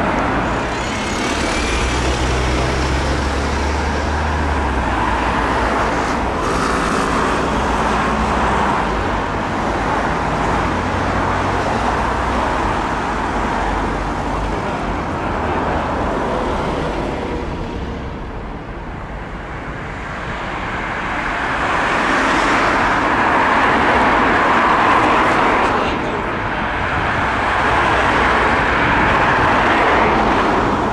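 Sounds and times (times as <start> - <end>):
road traffic noise: 0.0 - 30.9.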